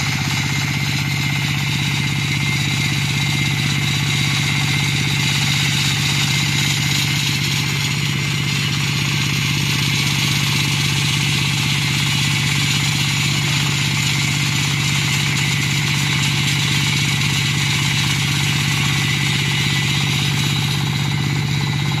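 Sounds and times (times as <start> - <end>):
diesel engine drone: 0.0 - 22.0
saw blade grinding concrete: 0.0 - 22.0.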